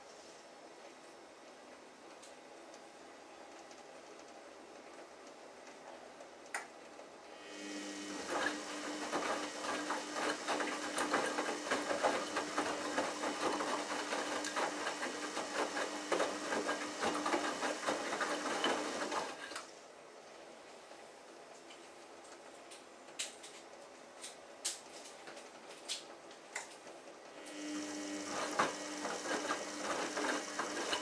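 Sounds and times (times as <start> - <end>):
washing machine motor hum: 1.2 - 23.2, 25.4 - 31.0.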